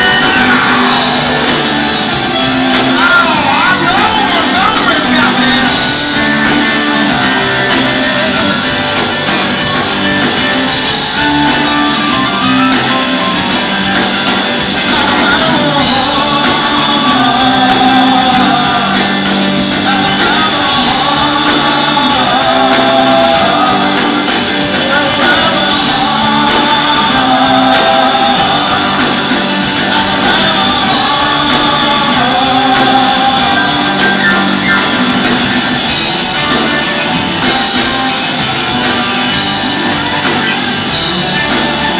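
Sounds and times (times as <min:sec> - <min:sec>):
bass guitar: 0:00.0 - 0:41.9
drums: 0:00.0 - 0:41.9
electric guitars: 0:00.0 - 0:41.9
lead singer singing: 0:00.0 - 0:41.9.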